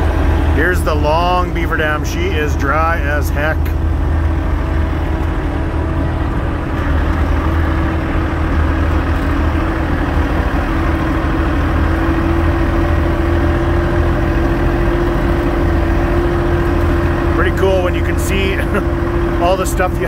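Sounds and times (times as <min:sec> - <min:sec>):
diesel engine running: 0:00.0 - 0:20.0
steady whine: 0:00.0 - 0:20.0.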